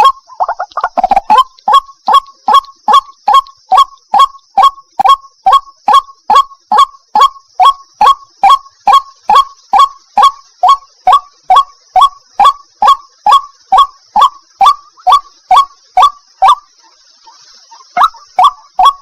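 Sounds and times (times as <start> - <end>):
faint high hiss: 0.0 - 19.0
waterhen calling: 0.0 - 19.0.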